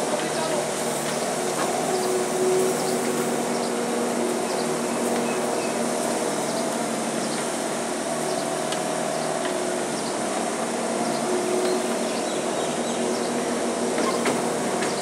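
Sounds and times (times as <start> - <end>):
constant noise: 0.0 - 15.0
skid steer loader engine running: 0.0 - 15.0.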